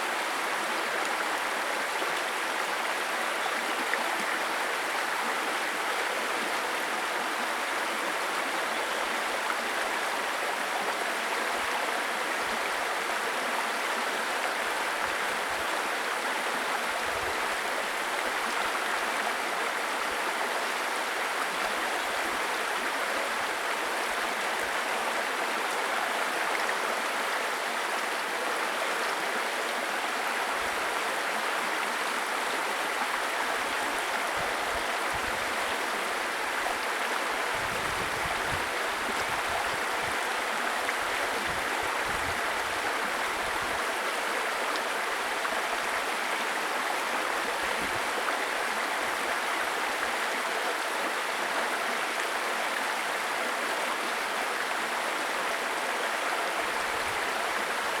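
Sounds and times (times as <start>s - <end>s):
brook water running over stones: 0.0s - 58.0s.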